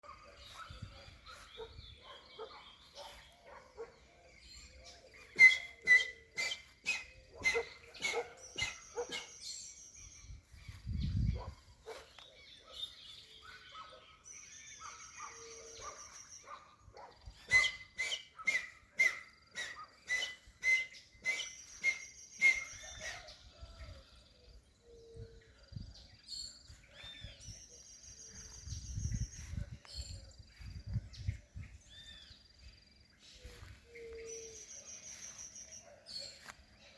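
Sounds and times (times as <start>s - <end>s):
small birds with buzzy trills: 0.0s - 36.9s.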